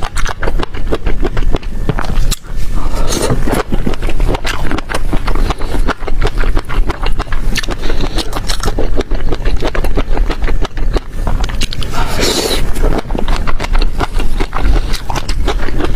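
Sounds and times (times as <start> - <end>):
chewing and crunching food: 0.0 - 15.9.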